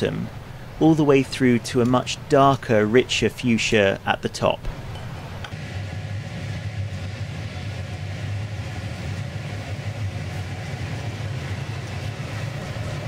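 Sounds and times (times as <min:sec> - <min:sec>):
gas burners roaring: 0:00.0 - 0:13.0.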